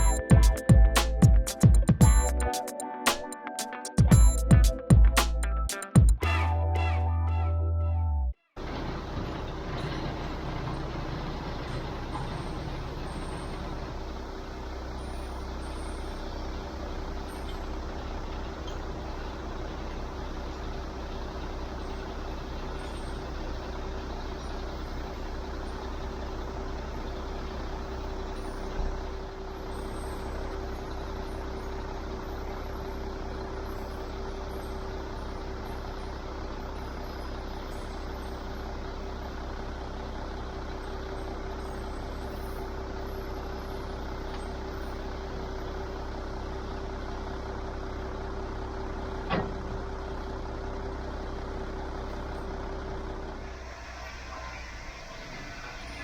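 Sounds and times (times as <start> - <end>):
truck engine running: 0.0 - 8.0, 8.6 - 56.0.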